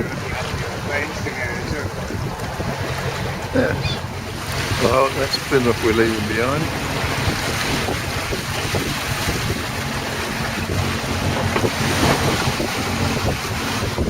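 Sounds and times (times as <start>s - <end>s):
boat engine droning: 0.0s - 14.0s
water rushing along hull: 0.0s - 14.0s
wind buffeting microphone: 0.0s - 14.0s.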